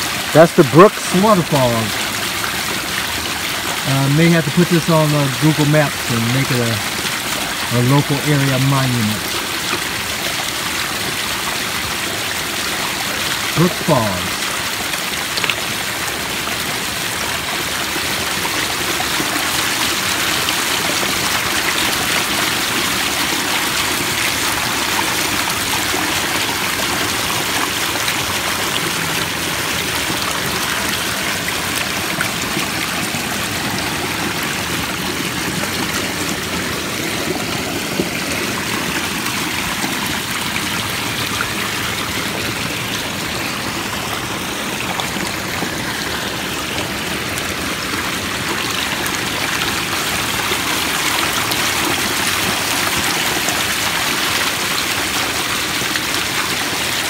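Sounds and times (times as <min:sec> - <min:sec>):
waterfall splashing over rocks: 0:00.0 - 0:57.0.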